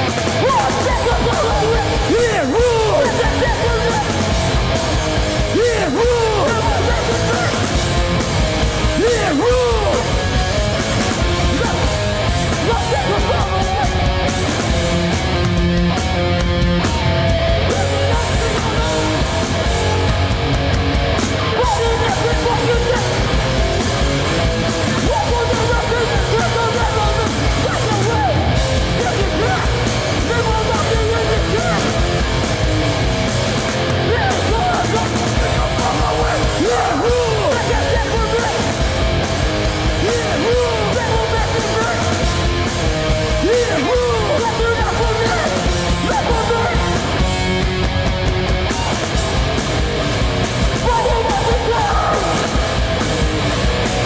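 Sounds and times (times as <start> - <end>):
shouted vocals: 0.0 - 15.1, 16.7 - 47.9, 48.5 - 54.0
bass: 0.0 - 54.0
distorted electric guitars: 0.0 - 54.0
drums: 0.0 - 54.0.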